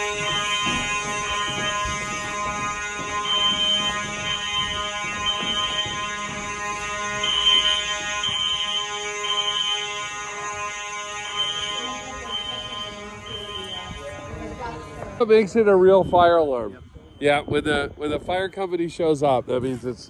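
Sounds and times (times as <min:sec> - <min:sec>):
buzzing mechanical alarm horn: 0:00.0 - 0:18.8
electronic fire alarm horn blasts: 0:00.0 - 0:19.1.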